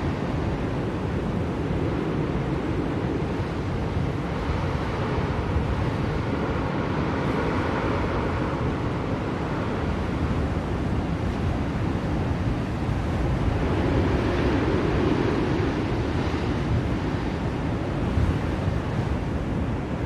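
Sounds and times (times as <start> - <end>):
snowstorm wind blowing: 0.0 - 20.0.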